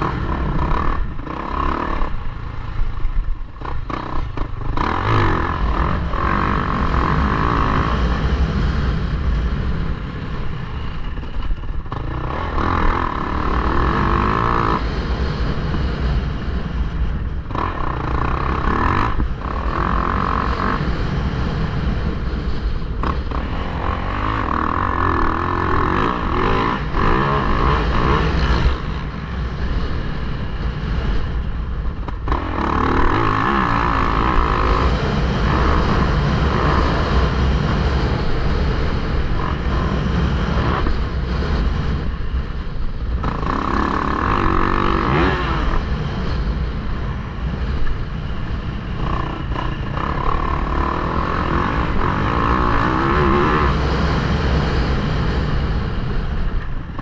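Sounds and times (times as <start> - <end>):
motocross engine revving: 0.0 - 2.8, 3.5 - 9.9, 11.8 - 16.9, 17.5 - 31.2, 32.0 - 42.2, 43.2 - 55.4
wind rumble on microphone: 0.0 - 57.0.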